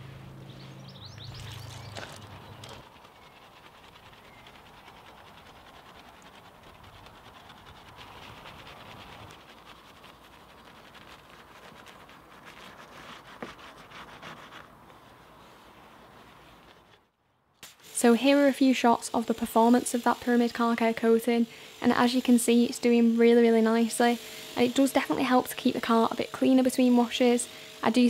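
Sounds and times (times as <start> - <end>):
brush scratchy rubbing: 1.0 - 17.1, 17.7 - 28.0.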